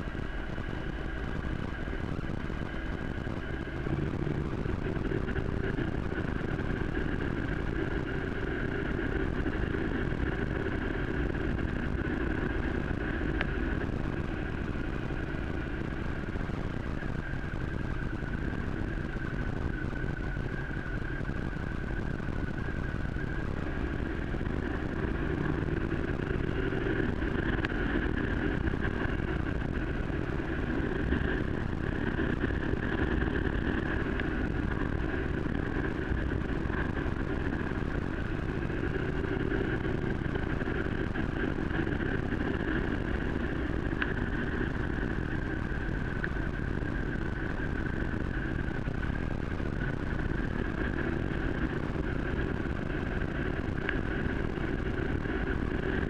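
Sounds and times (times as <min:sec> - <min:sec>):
vehicle driving on wet dirt road: 0:00.0 - 0:56.0.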